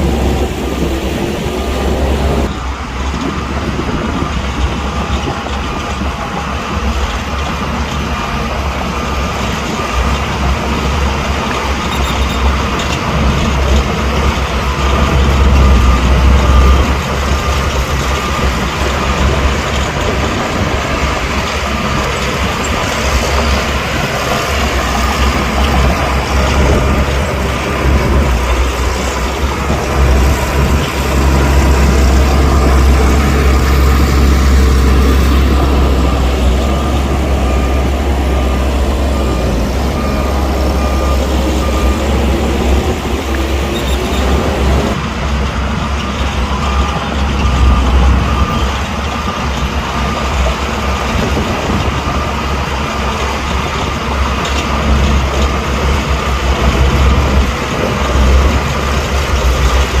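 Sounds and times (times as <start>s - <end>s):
diesel machinery engines rumbling: 0.0s - 60.0s
reversing alarm beeping: 6.0s - 45.1s, 45.7s - 60.0s.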